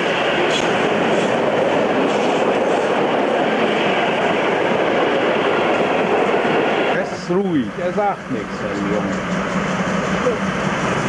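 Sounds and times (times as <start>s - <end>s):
train wheels rolling on track: 0.0s - 11.0s.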